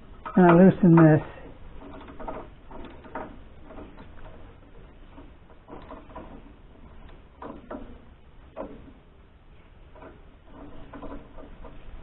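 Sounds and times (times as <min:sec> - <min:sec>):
wrench knocking and scraping: 0:00.0 - 0:09.1, 0:09.9 - 0:12.0.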